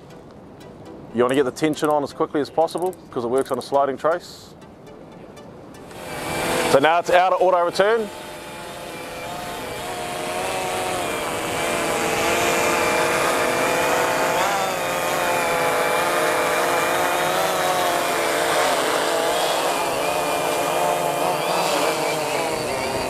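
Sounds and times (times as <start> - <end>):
drone rotors buzzing: 4.5 - 23.0.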